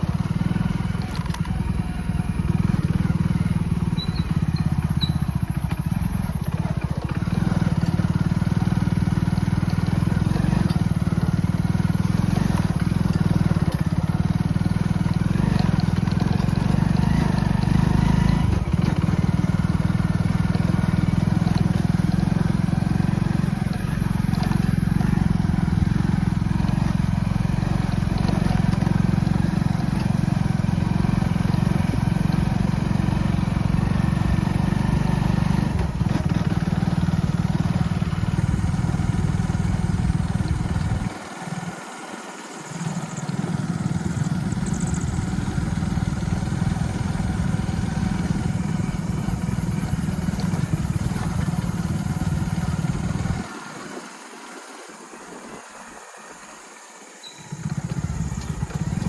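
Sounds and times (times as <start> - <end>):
motorcycle engine rumbling: 0.0 - 54.5, 55.8 - 59.0.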